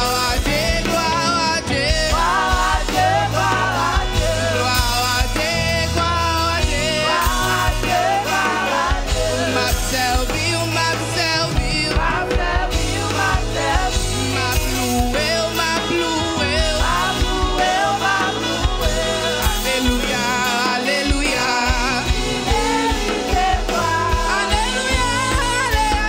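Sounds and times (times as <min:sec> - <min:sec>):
electric bass low notes: 0:00.0 - 0:26.0
woman singing into a microphone: 0:00.0 - 0:26.0.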